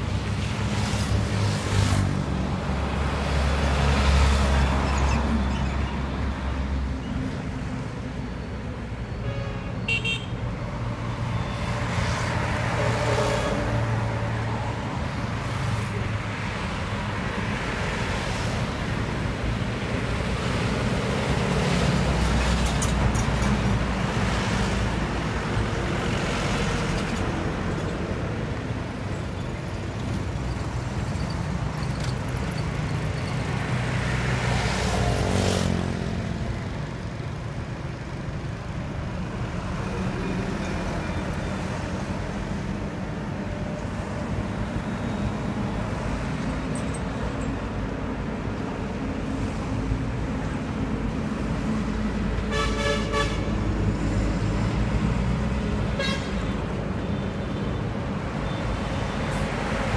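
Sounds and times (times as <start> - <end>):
highway traffic passing: 0.0 - 59.9.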